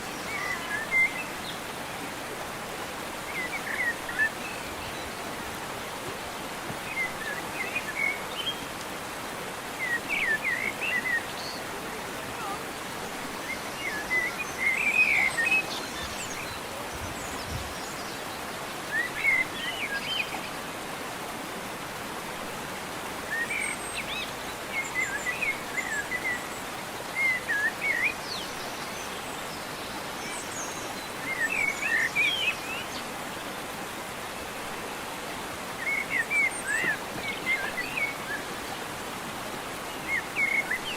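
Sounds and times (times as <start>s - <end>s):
songbirds chirping: 0.0s - 40.9s
steady background hiss: 0.0s - 40.9s.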